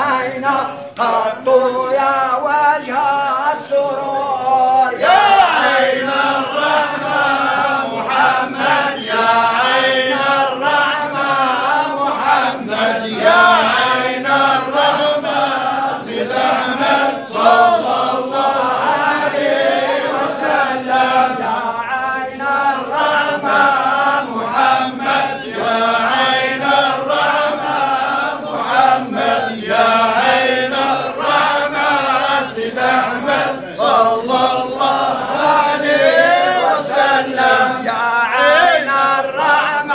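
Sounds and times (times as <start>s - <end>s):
men chanting in unison: 0.0s - 39.9s.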